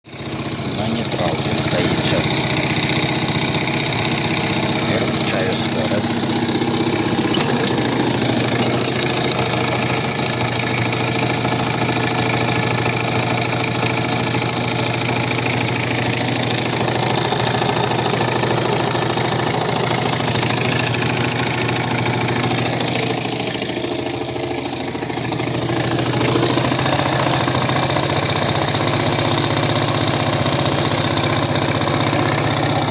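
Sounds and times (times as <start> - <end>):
motorbike engine idling with knock: 0.1 - 32.9.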